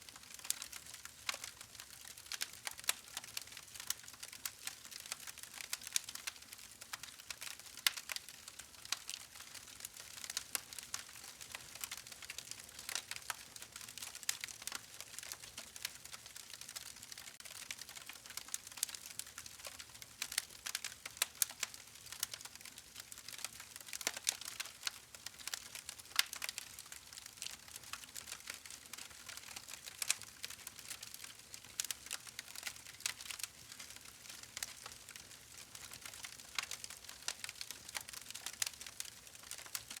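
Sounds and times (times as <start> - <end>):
campfire crackling: 5.1 - 40.0.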